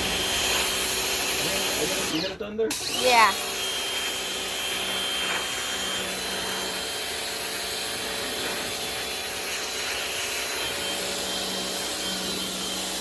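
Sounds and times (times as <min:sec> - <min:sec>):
pressure washer motor hum: 0:00.0 - 0:13.0.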